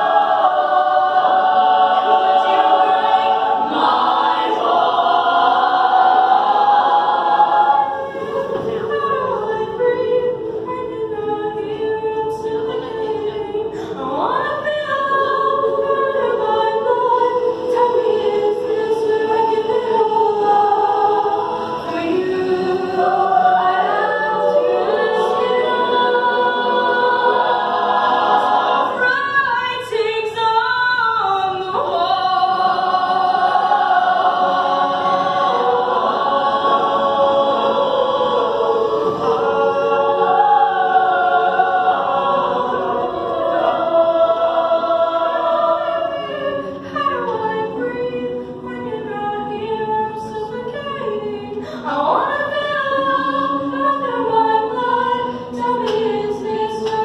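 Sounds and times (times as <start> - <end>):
youth choir singing: 0.0 - 57.0.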